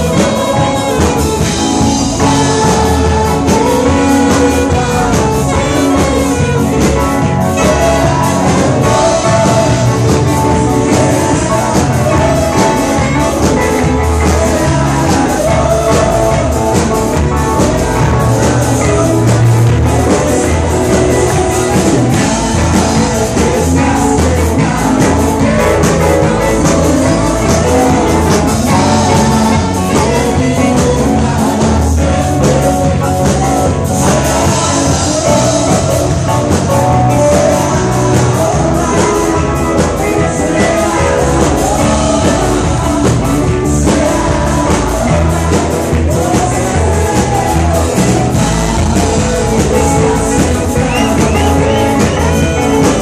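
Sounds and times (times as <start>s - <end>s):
congregation singing along: 0.0s - 53.0s
live worship band playing: 0.0s - 53.0s
singers on microphones: 0.0s - 53.0s.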